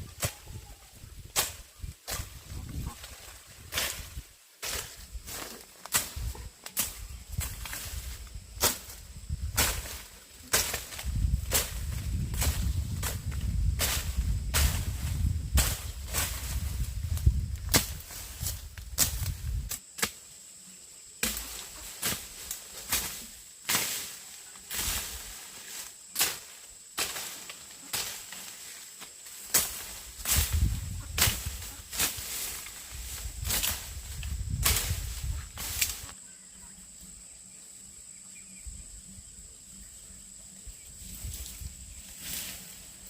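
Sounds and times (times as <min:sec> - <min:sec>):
background hiss: 0:00.0 - 0:43.0.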